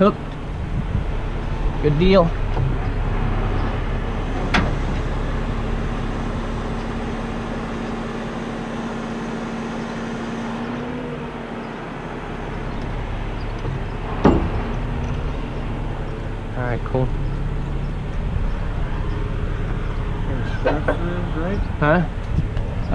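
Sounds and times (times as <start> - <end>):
tow truck engine hum: 0.0 - 22.9.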